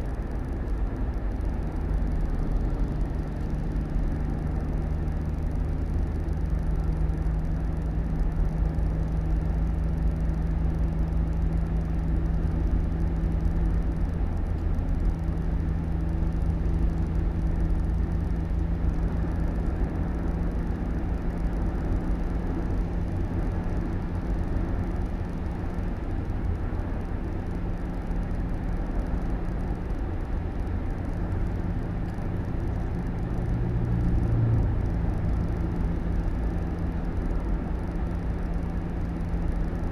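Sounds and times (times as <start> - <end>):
car engine and road noise rumble: 0.0 - 39.9.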